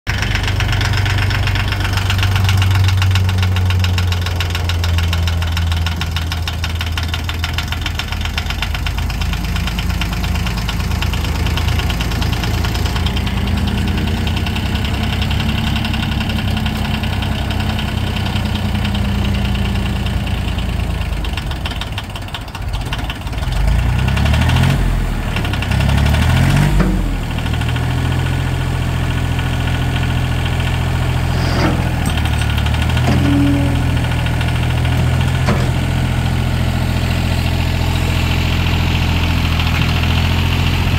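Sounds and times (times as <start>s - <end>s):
tractor engine knocking clatter: 0.1s - 40.9s.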